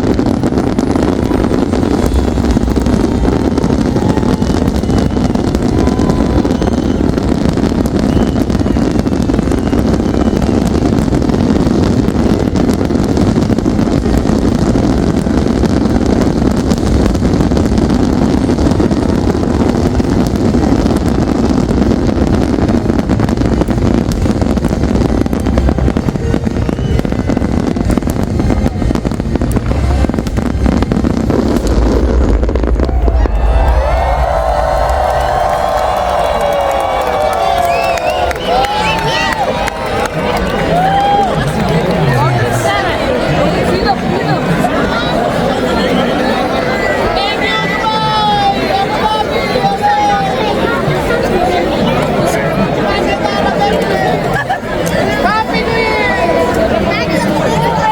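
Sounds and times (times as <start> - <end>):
rapid fireworks crackles: 0.0 - 57.9
rumble of fireworks bursts: 0.0 - 57.9.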